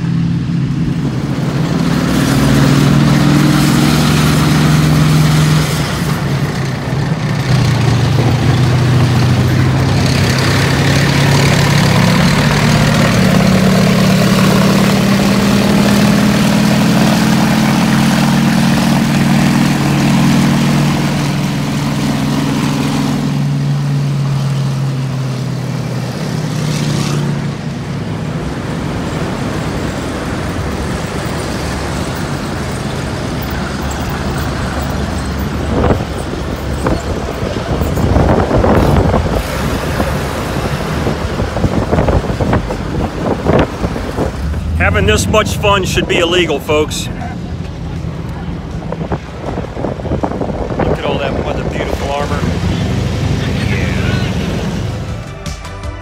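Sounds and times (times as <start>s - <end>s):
tank engine running: 0.0s - 55.6s.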